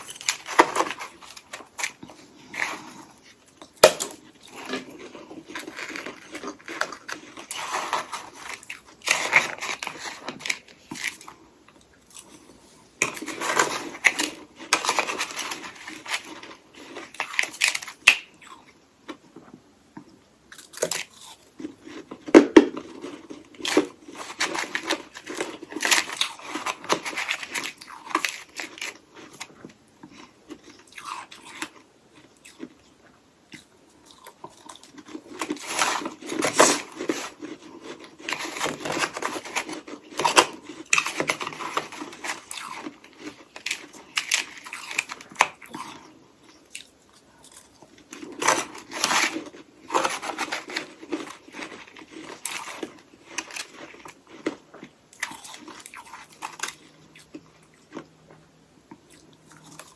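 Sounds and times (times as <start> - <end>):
crunching and chewing ice: 0.0 - 19.6, 20.5 - 59.9.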